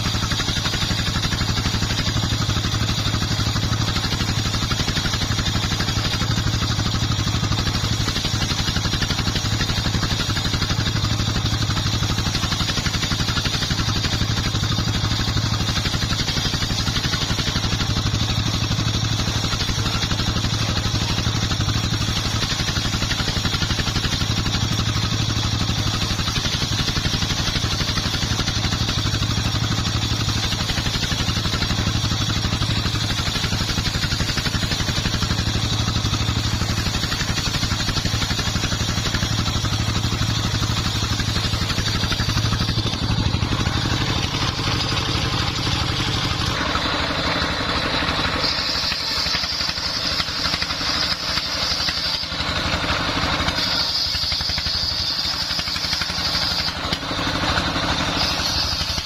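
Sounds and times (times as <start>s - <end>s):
diesel engine running: 0.0s - 59.0s
saw blade whining into wood: 0.0s - 59.0s.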